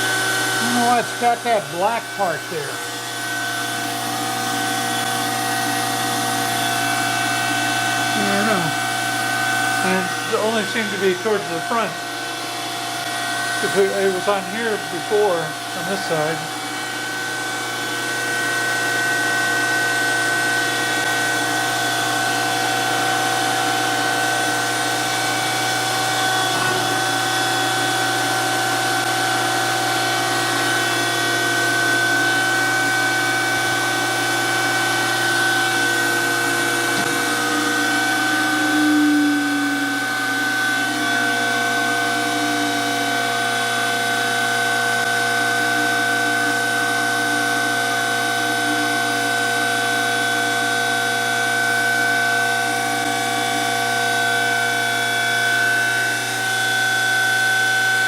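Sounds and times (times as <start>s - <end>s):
surface grinder running: 0.0s - 58.0s.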